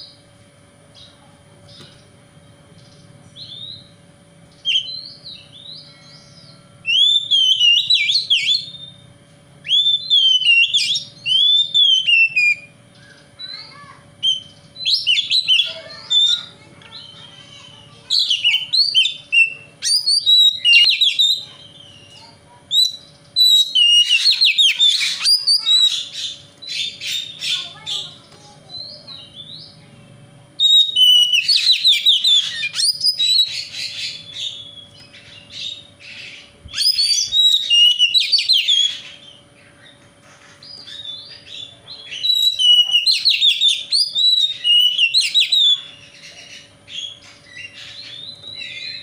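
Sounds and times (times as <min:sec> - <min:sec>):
songbird singing whistled phrases: 0:02.8 - 0:17.3, 0:18.1 - 0:27.6, 0:30.6 - 0:39.7, 0:40.6 - 0:49.0.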